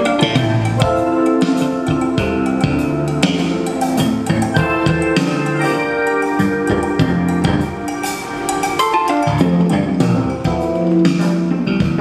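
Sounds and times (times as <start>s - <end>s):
music with drum beat over speakers: 0.0s - 12.0s.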